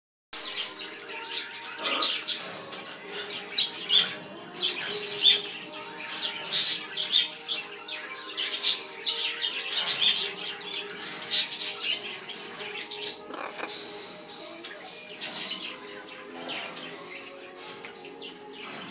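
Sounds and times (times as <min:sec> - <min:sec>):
parrots squawking: 0:00.4 - 0:18.9.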